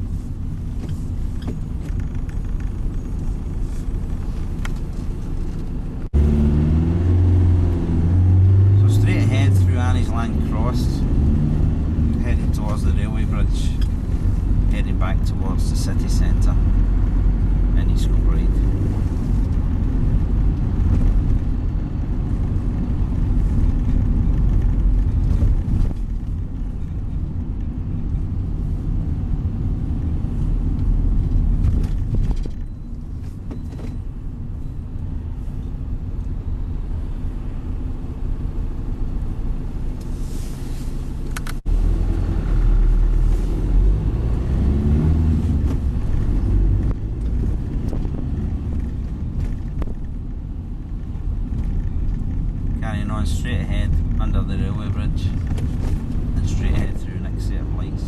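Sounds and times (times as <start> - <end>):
bus engine and tyres rumbling: 0.0 - 58.0.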